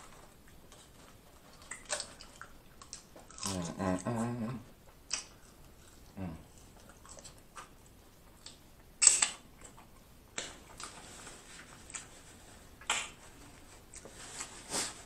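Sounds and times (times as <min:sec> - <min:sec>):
man chewing food: 0:00.0 - 0:15.0.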